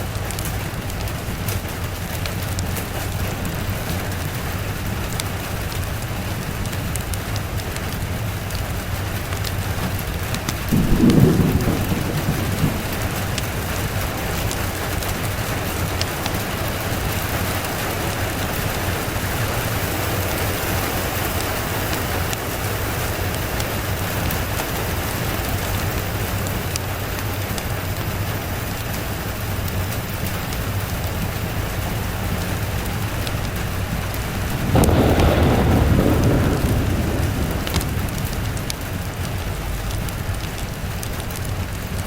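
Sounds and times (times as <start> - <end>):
steady rain falling: 0.0 - 42.0
thunder rumble: 0.0 - 42.0.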